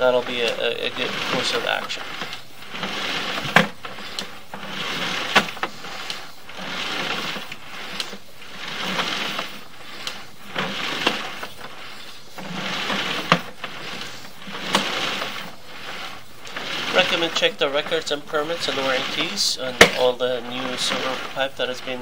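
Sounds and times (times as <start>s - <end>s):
cable sliding hiss: 0.0s - 22.0s
sharp reel clicks: 0.0s - 22.0s.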